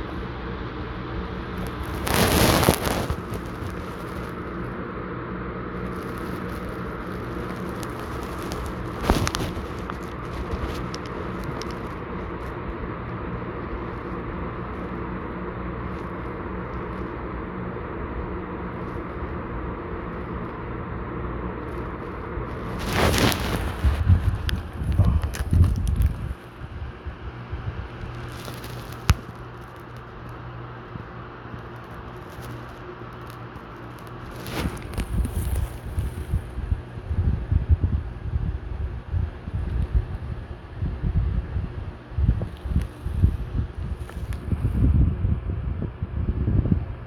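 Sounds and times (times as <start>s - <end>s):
steady low hum: 0.0s - 47.0s
rustling handling noise: 1.3s - 20.6s, 21.5s - 36.9s, 42.0s - 44.9s.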